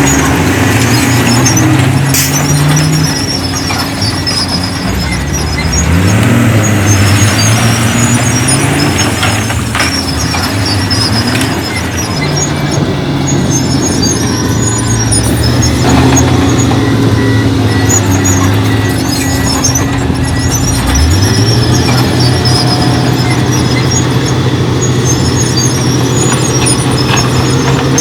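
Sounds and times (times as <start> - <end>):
diesel machinery engine: 0.0 - 28.0
high-pitched squeaks: 0.0 - 28.0.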